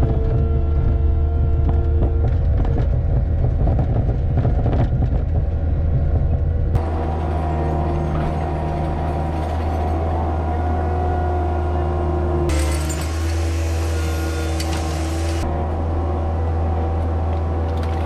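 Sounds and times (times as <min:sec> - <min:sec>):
skid steer engine running: 0:00.0 - 0:18.0.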